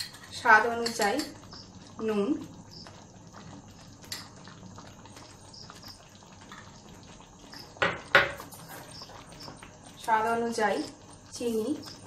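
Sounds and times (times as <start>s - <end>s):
gravy simmering and bubbling: 0.0s - 12.0s.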